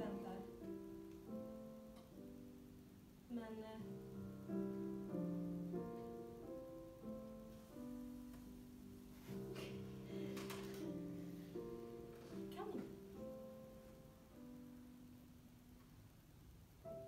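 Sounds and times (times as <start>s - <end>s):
slow soft piano: 0.0s - 17.0s.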